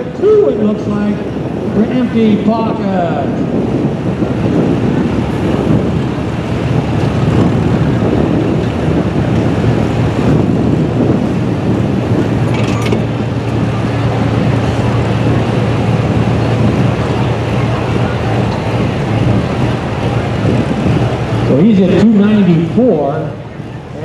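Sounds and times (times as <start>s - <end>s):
truck engine roaring under load: 0.0s - 24.0s.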